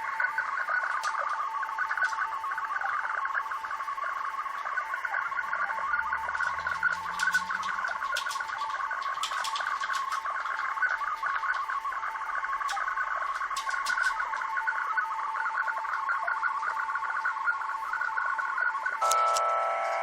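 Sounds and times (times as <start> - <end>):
rapidly warbling data tones: 0.0 - 20.0
static crackles: 0.0 - 20.0.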